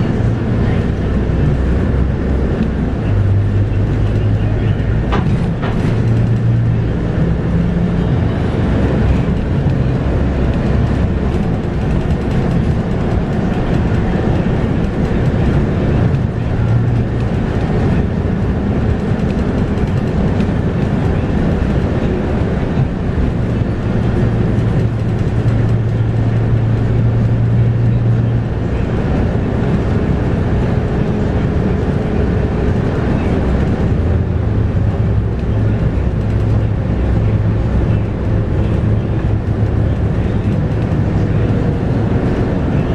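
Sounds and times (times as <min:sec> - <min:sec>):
bus diesel engine drone: 0:00.0 - 0:42.9.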